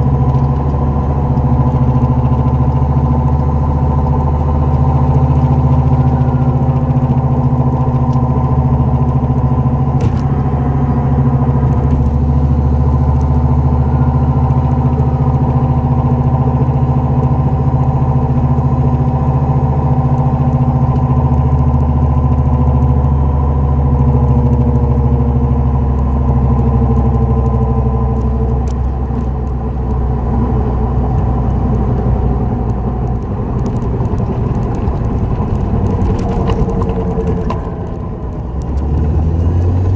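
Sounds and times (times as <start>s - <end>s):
car running noise: 0.0s - 39.9s.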